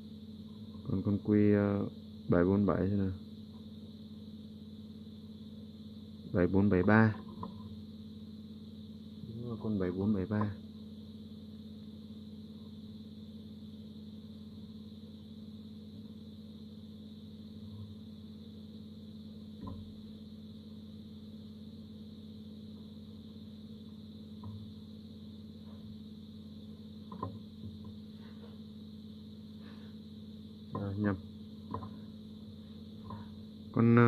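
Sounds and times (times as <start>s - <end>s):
electrical hum: 0.0s - 34.0s.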